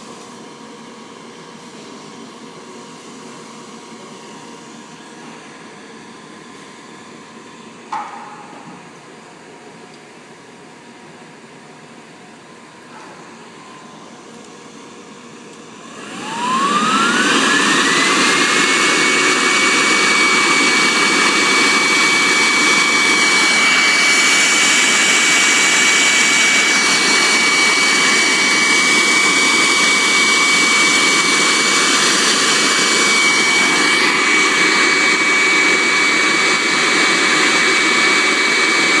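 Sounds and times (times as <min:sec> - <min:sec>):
vacuum cleaner motor whine: 0:00.0 - 0:09.0, 0:11.4 - 0:39.0.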